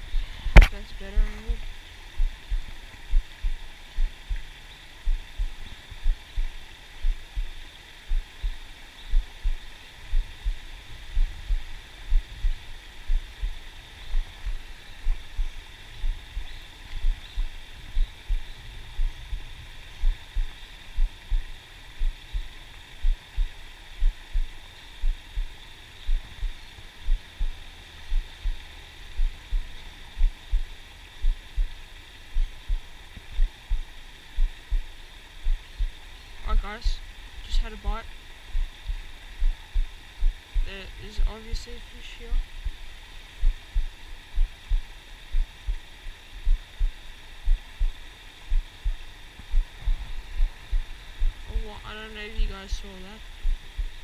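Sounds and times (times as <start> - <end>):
constant high hiss: 0.0 - 54.0
low dull thumps: 2.2 - 28.6, 29.2 - 36.0, 38.5 - 41.4, 43.4 - 51.6, 53.4 - 54.0.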